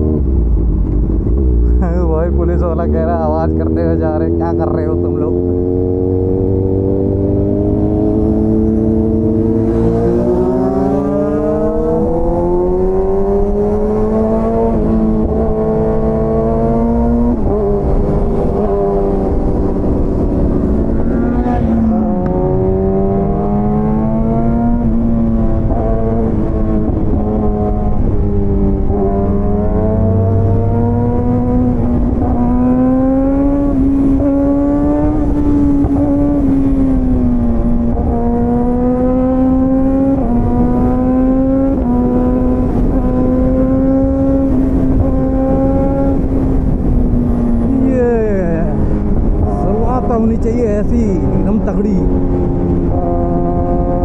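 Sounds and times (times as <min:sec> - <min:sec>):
motorcycle engine revving: 0:00.0 - 0:54.0
wind noise: 0:00.0 - 0:54.0.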